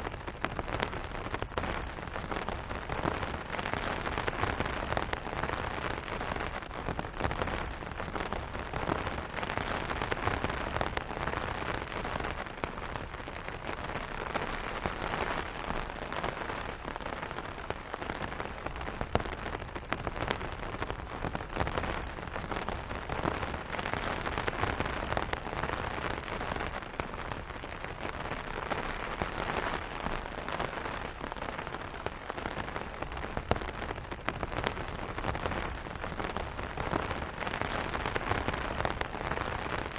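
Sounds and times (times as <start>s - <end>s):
rain on umbrella: 0.0s - 39.9s.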